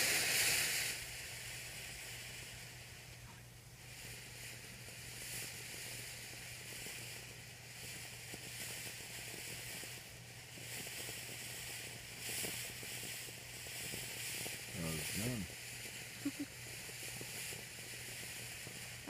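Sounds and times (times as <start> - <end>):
faint crackling: 0.0 - 19.0
firework fountain hissing: 0.0 - 19.0.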